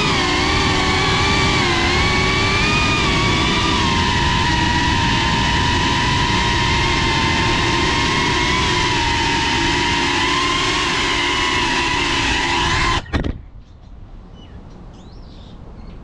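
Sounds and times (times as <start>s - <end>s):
wide rushing hiss: 0.0s - 13.1s
drone propellers whining: 0.0s - 13.5s.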